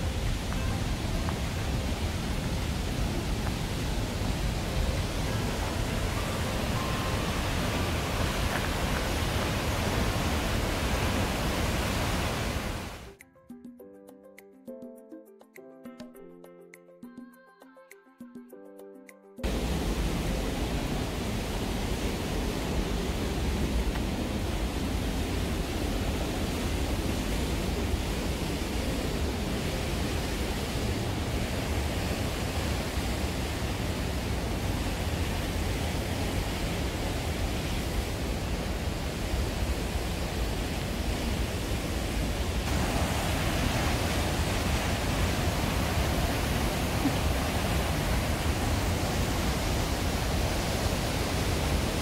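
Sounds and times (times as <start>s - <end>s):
creek and waterfall rushing: 0.0s - 13.1s, 19.4s - 52.0s.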